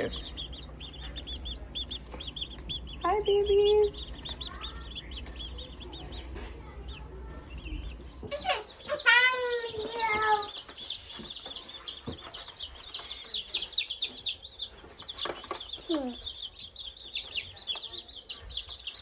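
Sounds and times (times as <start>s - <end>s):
baby chicks peeping: 0.0s - 19.0s.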